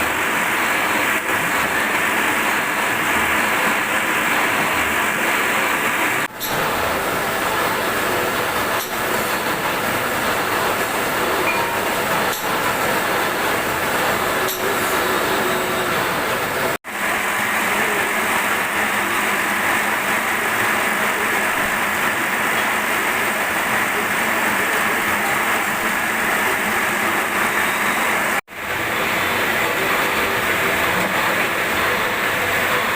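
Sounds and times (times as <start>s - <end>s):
machine running: 0.0s - 32.9s.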